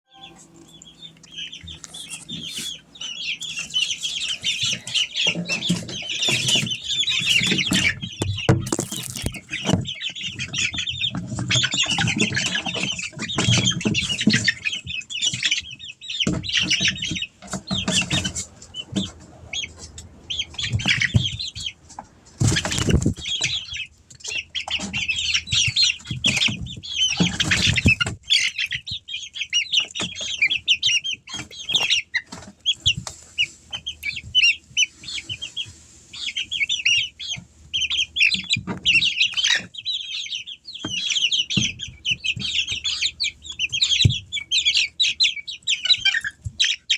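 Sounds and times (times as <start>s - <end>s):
chickens cheeping: 0.0s - 46.9s.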